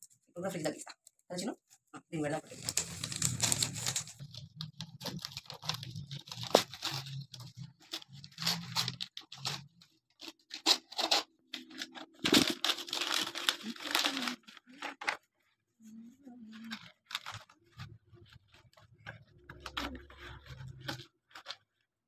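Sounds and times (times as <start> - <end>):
wrapping paper tearing and crinkling: 2.4 - 15.3, 16.6 - 21.8.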